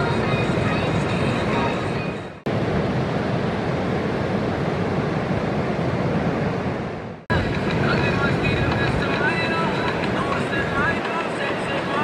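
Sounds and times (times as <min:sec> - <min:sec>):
ocean surf breaking: 0:00.0 - 0:12.0
wind: 0:00.0 - 0:12.0.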